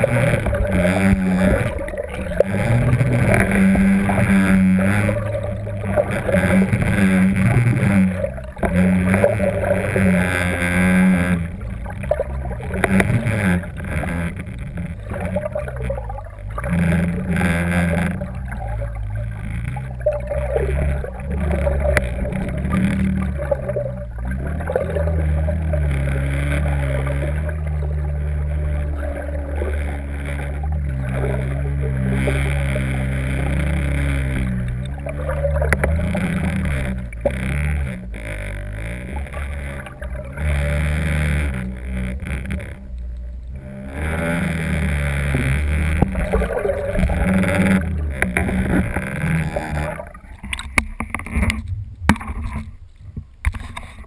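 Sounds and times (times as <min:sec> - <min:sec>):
muffled underwater water rushing: 0:00.0 - 0:54.0.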